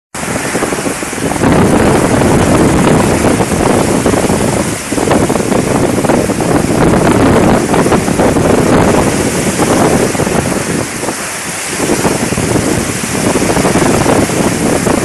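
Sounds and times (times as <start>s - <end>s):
heavy rain pouring: 0.2s - 15.0s
wind buffeting microphone: 0.2s - 15.0s.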